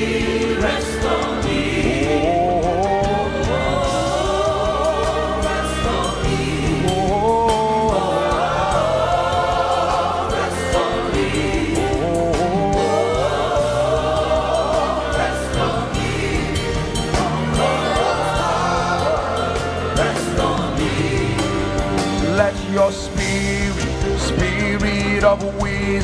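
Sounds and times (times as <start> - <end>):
choir singing gospel chorus: 0.0 - 26.0
instrumental backing: 0.0 - 26.0.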